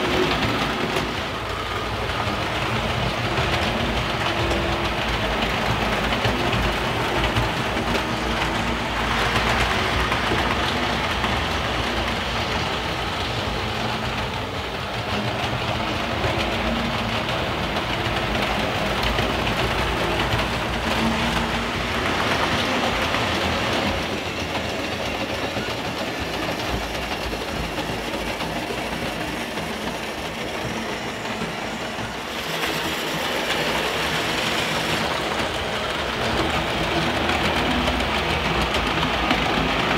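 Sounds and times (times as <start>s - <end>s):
model train wheels rattling on rails: 0.0s - 39.9s.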